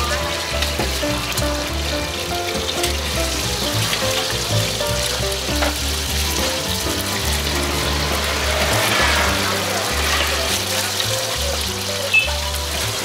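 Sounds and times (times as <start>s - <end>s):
background music: 0.0s - 13.0s
hot oil sizzling in a pan: 0.0s - 13.0s.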